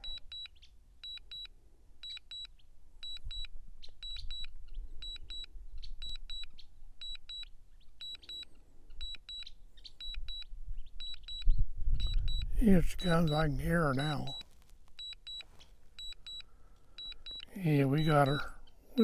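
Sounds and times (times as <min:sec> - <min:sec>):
remote controller double beeps: 0:00.0 - 0:18.5.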